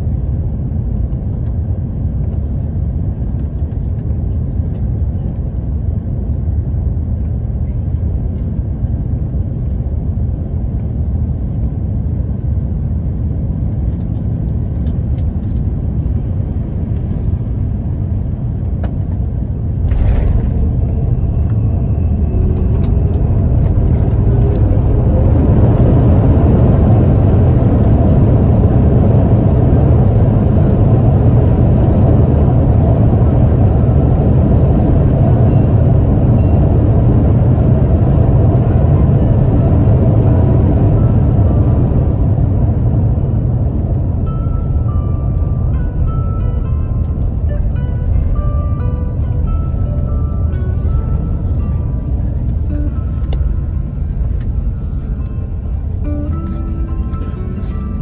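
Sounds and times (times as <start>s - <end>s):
airplane cabin rumble: 0.0s - 58.0s
jet engines and runway rumble: 0.0s - 58.0s.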